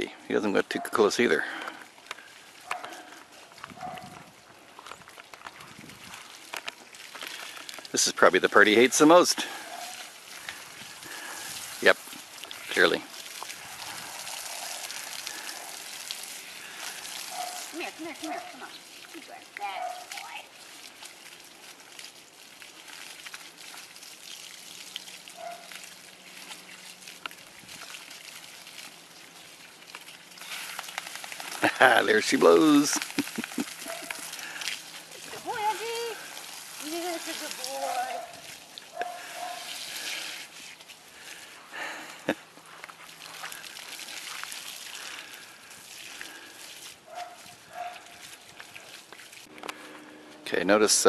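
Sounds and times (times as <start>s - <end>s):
water drips and splashes: 0.0s - 51.0s
hose water spattering: 0.8s - 51.0s.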